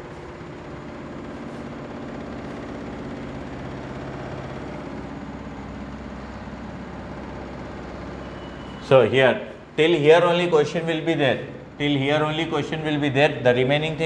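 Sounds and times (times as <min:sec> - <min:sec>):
low machine hum with held tones: 0:00.0 - 0:14.0.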